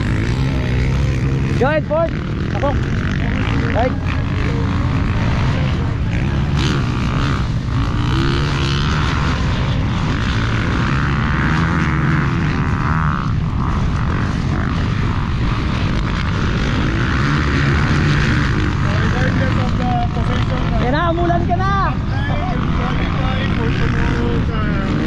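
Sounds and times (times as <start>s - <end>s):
dirt bike engines running hard: 0.0s - 25.0s.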